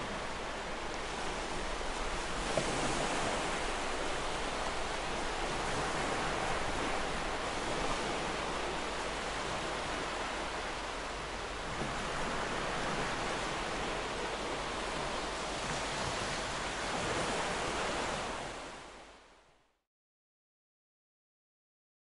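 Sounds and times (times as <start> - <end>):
ocean waves washing: 0.0 - 19.4.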